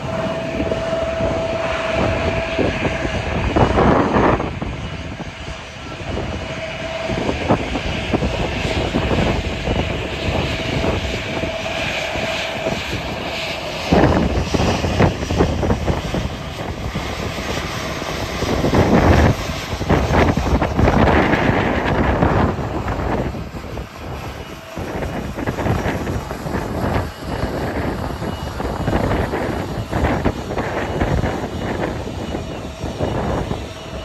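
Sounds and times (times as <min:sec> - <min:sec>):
airliner engines whining: 0:00.0 - 0:34.0
wind buffeting microphone: 0:00.0 - 0:34.0.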